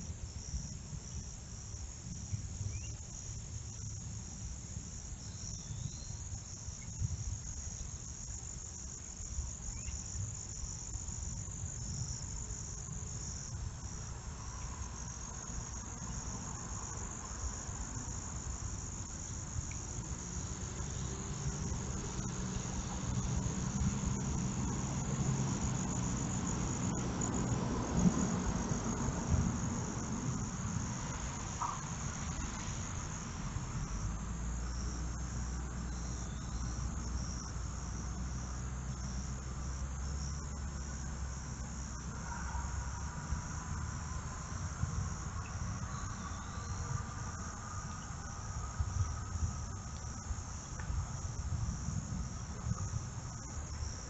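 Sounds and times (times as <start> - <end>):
crickets and insects trilling: 0.0 - 54.0
low background rumble: 7.0 - 54.0.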